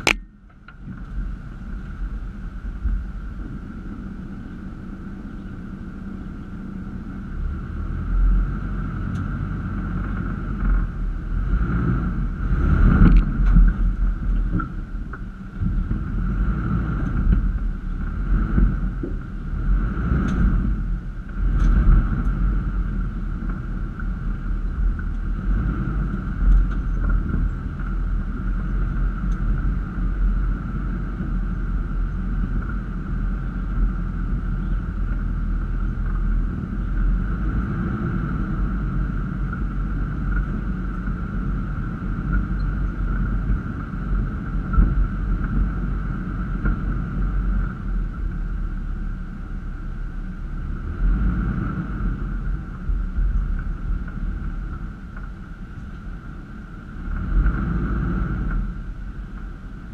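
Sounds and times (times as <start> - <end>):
engine and tyres rumbling: 0.0 - 59.9
steady higher hum: 0.0 - 59.9.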